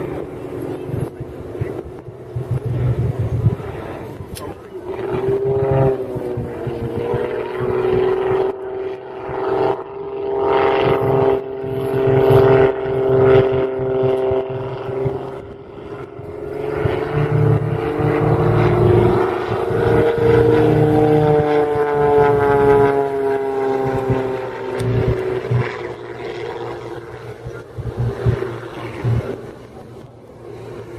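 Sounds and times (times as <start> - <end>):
propeller plane engine: 0.0 - 30.9.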